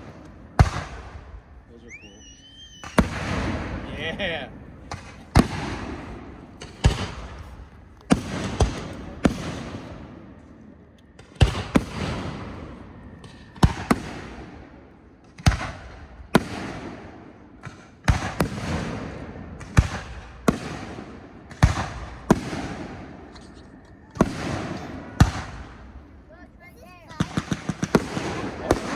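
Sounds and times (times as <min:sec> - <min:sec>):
fireworks bursting: 0:00.0 - 0:10.4, 0:11.2 - 0:28.9
crackling rumble of fireworks: 0:00.0 - 0:28.9.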